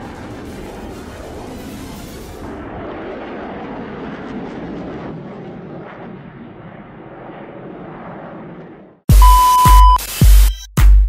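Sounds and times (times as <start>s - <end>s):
fighter jet engine rushing: 0.0s - 9.0s.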